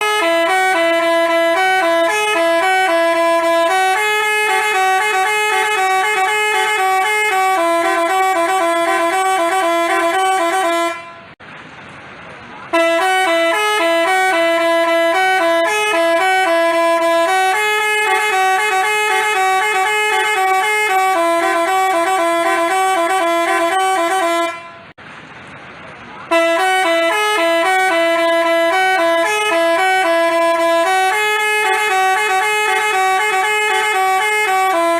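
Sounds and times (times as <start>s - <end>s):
multi-tone bus horn melody: 0.0s - 11.4s, 12.7s - 25.0s, 26.3s - 34.9s.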